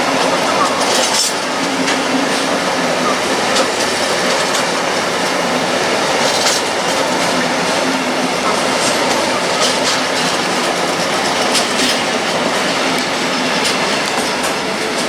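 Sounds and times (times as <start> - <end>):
rail clacks: 0.0 - 15.0
train wheels on rails: 0.0 - 15.0.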